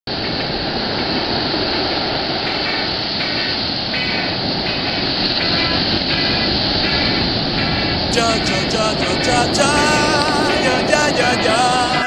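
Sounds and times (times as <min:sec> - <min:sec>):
surf breaking on boulder beach: 0:00.1 - 0:12.0.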